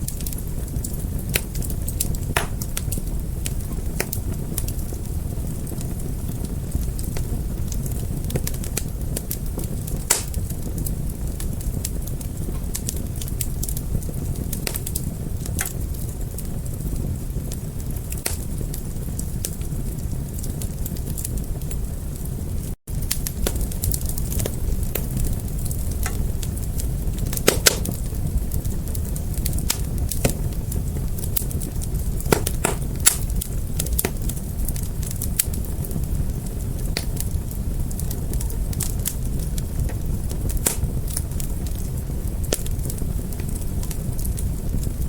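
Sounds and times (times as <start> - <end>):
low rumble of flames: 0.0 - 45.0
wood fire crackling: 0.0 - 45.0.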